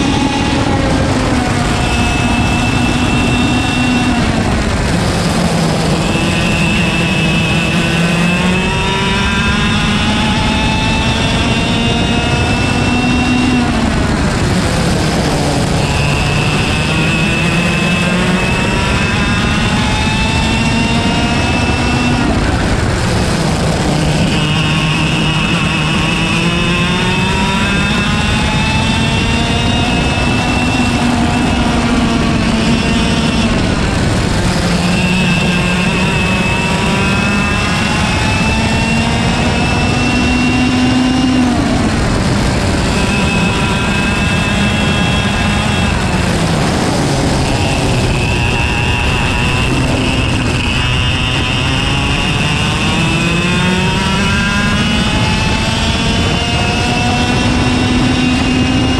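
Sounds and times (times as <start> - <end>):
kart engine revving: 0.0 - 58.9.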